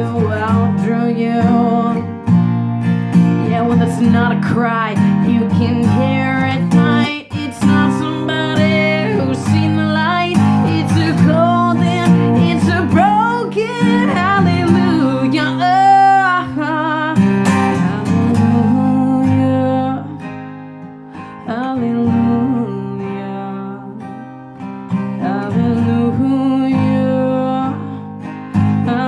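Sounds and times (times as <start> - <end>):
person singing with vibrato: 0.0 - 2.5, 3.1 - 20.4, 21.2 - 24.2, 25.2 - 29.0
acoustic guitar: 0.0 - 29.0.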